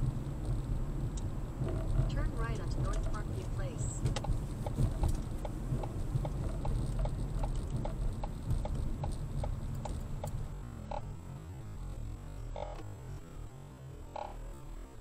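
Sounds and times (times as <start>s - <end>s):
turn signal ticking: 0.0s - 12.9s
car engine rumble: 0.0s - 15.0s
road noise: 0.0s - 15.0s.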